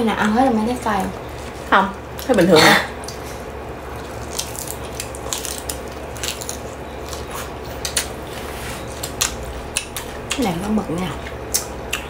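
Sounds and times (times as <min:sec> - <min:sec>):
crunchy chewing of vegetables: 0:01.0 - 0:12.0.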